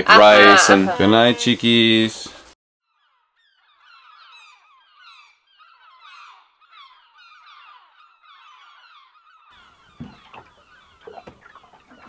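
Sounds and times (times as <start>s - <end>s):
chorus of birds chirping: 0.0s - 2.3s, 2.9s - 12.0s.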